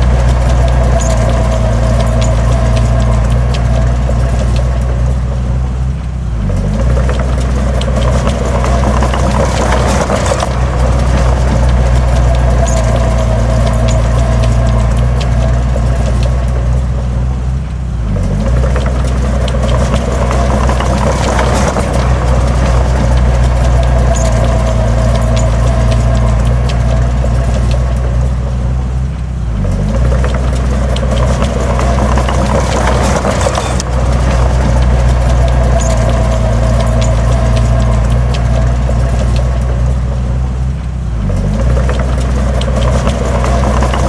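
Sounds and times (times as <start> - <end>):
heavy diesel engine running: 0.0 - 44.0
light rattling and clicking: 0.0 - 44.0.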